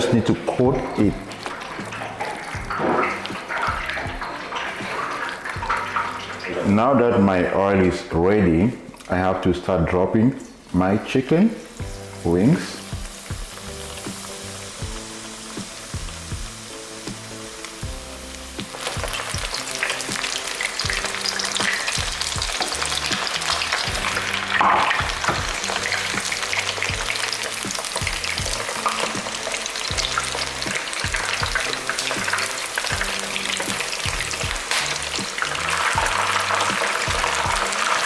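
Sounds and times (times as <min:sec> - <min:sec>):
chicken wings deep-frying in oil: 0:00.0 - 0:38.0.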